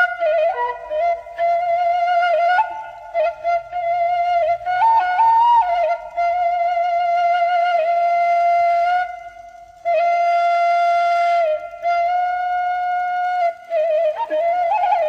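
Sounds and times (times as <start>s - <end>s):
flute-like wind instrument: 0.0s - 15.0s.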